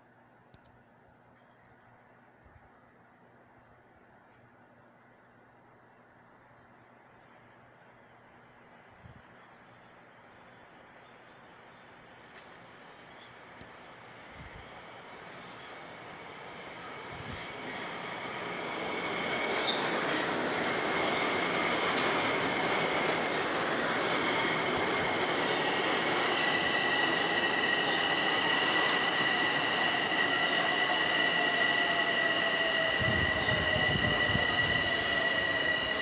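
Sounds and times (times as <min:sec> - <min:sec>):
train rolling rush: 0:03.9 - 0:36.0.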